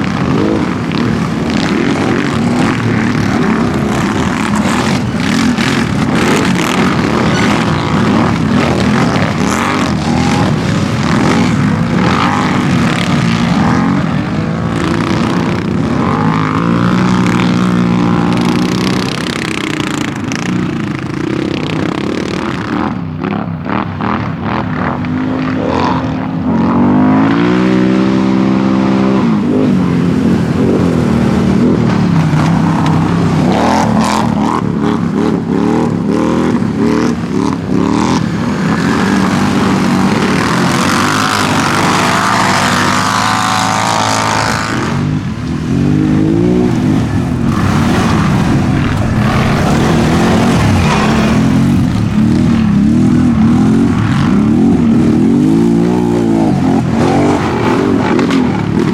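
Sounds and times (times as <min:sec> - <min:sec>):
atv engines revving: 0:00.0 - 0:58.9.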